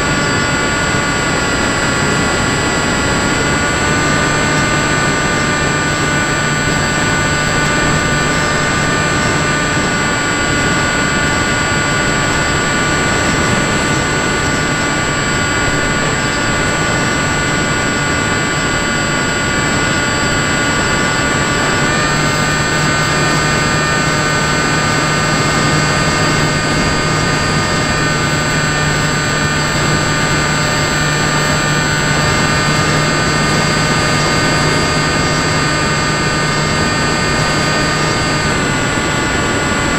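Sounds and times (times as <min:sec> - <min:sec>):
model airplane motor whine: 0:00.0 - 0:39.9.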